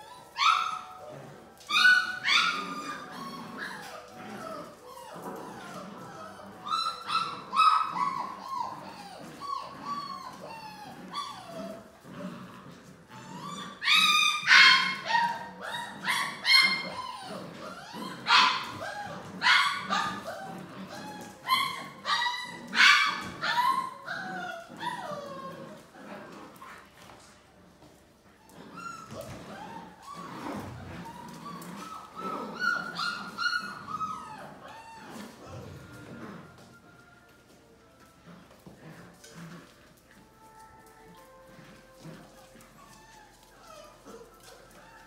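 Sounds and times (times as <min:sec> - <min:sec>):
puppies yipping and whining: 0:00.0 - 0:45.0.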